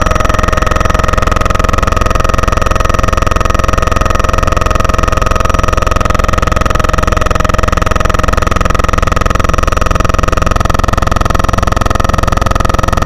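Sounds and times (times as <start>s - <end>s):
helicopter engine and rotor noise: 0.0s - 13.0s.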